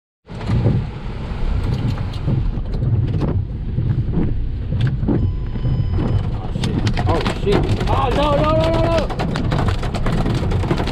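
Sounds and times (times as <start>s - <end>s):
wind and road noise: 0.2s - 10.9s.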